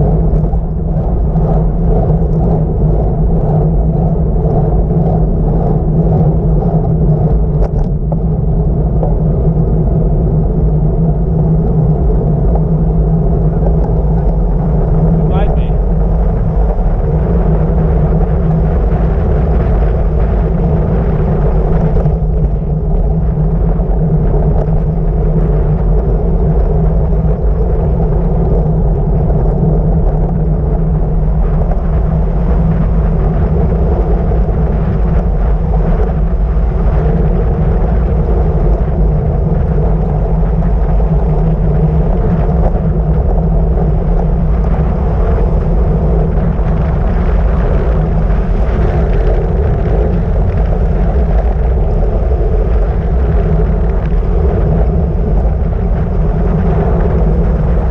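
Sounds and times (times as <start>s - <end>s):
tyre noise on asphalt: 0.0s - 57.9s
wind buffeting microphone: 0.0s - 57.9s.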